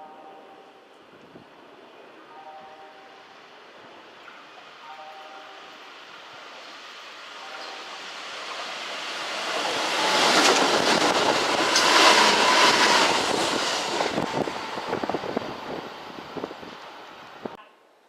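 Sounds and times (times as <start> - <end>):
electric train passing: 0.0 - 17.6
train whine: 0.0 - 17.6.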